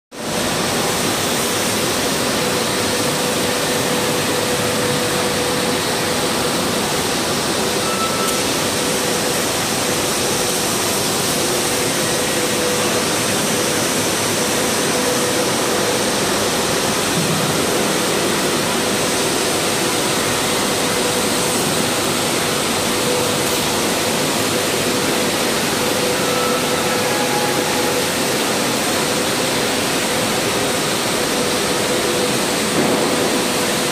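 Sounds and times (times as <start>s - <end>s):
factory machinery roar: 0.1s - 33.9s.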